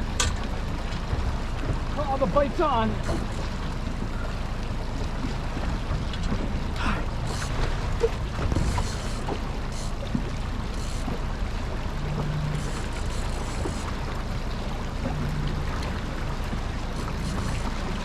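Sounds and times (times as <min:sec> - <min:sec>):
boat engine rumble: 0:00.0 - 0:18.0
water noise: 0:00.0 - 0:18.0.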